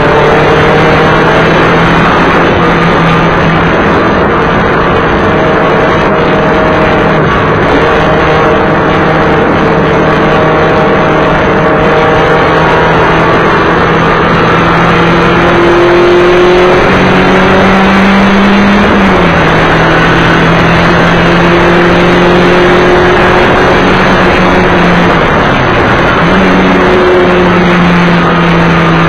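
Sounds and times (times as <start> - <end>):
race car engine: 0.0 - 29.0.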